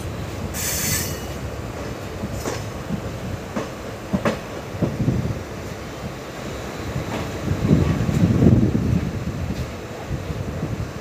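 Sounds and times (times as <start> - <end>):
wheels clacking over rail joints: 0.0 - 9.9
train wheels rumbling: 0.0 - 11.0.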